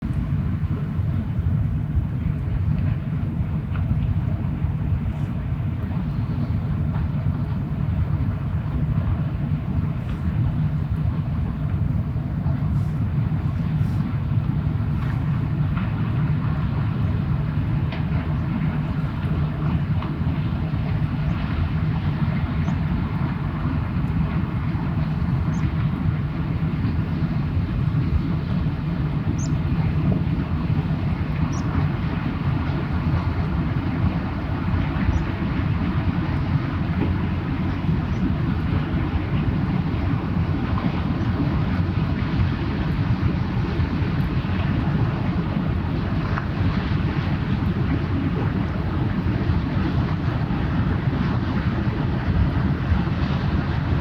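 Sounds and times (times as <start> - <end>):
ship engine rumble: 0.0 - 54.0.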